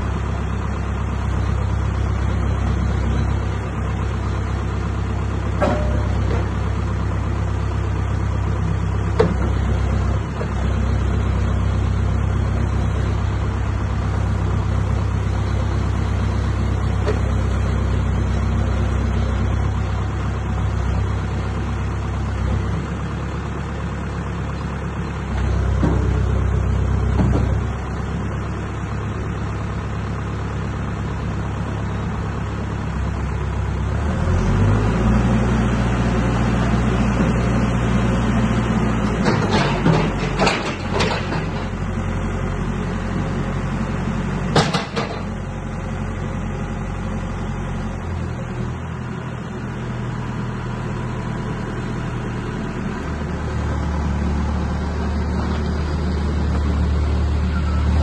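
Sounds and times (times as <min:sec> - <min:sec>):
diesel engine throttling: 0:00.0 - 0:58.0.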